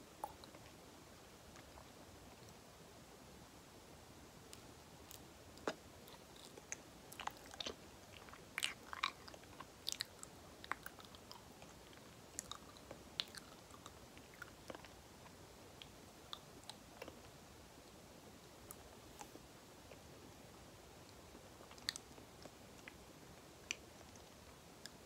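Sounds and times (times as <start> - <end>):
soft chewing with mouth clicks: 0.2 - 0.8, 1.5 - 2.6, 4.5 - 25.0.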